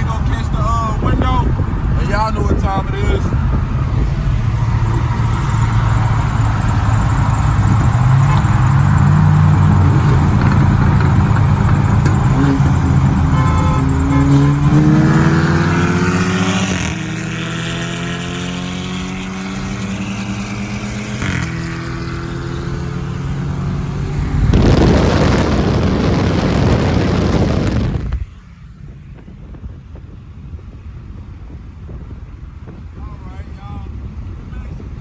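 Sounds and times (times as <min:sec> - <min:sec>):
car engine accelerating: 0:00.0 - 0:28.3
wind and road noise rushing: 0:00.0 - 0:35.0.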